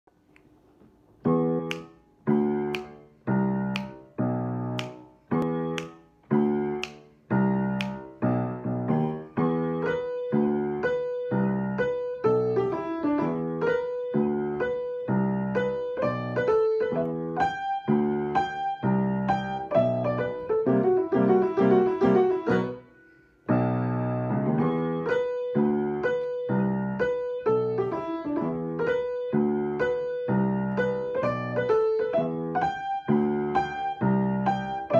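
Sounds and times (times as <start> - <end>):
solo piano: 0.8 - 34.9.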